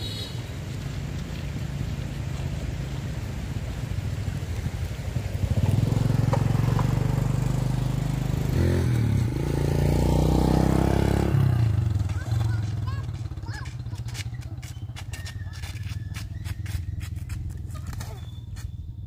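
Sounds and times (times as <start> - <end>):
motorbike engine passing: 0.0 - 19.0.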